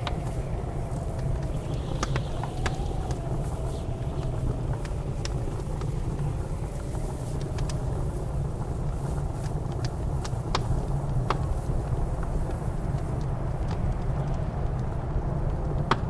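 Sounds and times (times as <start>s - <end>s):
blizzard wind rumbling: 0.0s - 16.0s
wind whistling: 0.0s - 16.0s
wood fire crackling: 0.0s - 16.0s.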